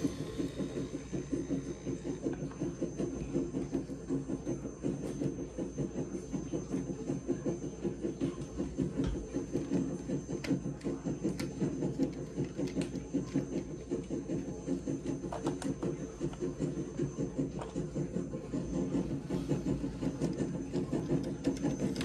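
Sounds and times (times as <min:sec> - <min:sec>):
model train mechanical pulsing: 0:00.0 - 0:22.0.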